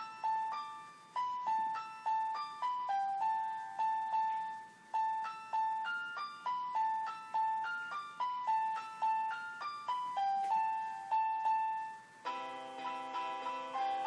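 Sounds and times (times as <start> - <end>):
keyboard melody: 0.0 - 14.0.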